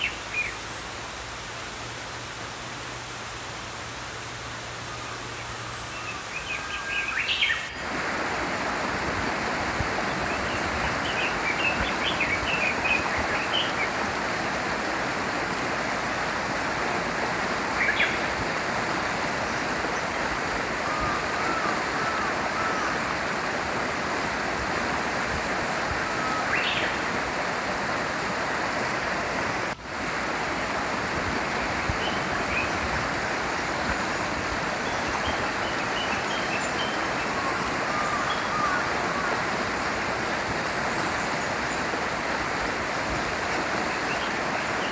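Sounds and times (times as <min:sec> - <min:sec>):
small stream flowing: 0:00.0 - 0:44.9.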